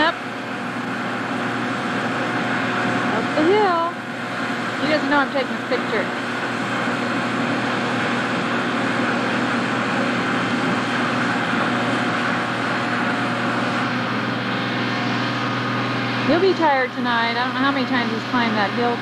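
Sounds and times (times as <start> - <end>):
heavy truck engines running: 0.0 - 19.0.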